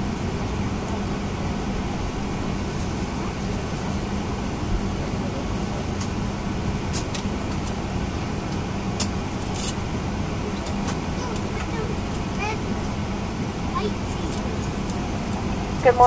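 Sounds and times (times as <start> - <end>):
airplane cabin air rush: 0.0 - 16.0
low steady hum: 0.0 - 16.0.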